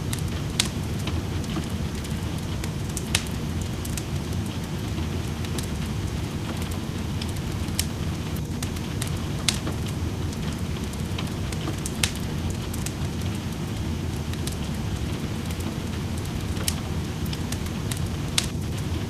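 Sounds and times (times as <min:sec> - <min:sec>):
steady rain: 0:00.0 - 0:19.0
wood fire crackling and popping: 0:00.0 - 0:19.0.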